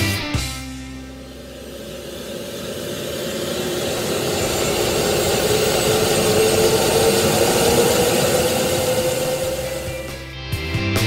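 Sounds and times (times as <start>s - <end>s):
helicopter turbine spooling up: 0.0s - 10.4s.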